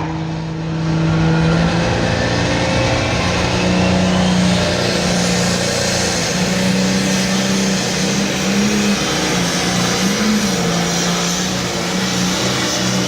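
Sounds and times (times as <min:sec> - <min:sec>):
tractor diesel engine at full power: 0:00.0 - 0:13.0.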